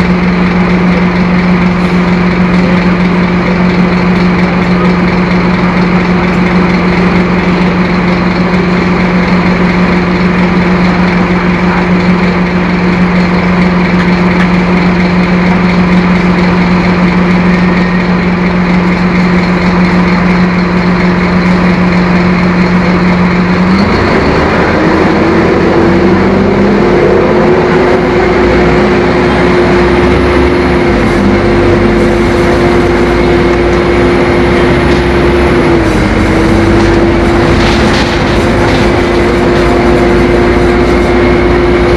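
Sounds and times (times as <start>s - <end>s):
bus diesel engine running: 0.0s - 41.9s
engine whine: 0.0s - 41.9s.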